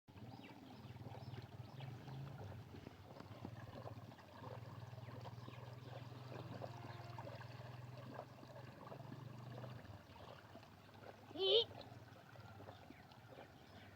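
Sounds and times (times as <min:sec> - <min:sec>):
water trickling and splashing: 0:00.1 - 0:13.9.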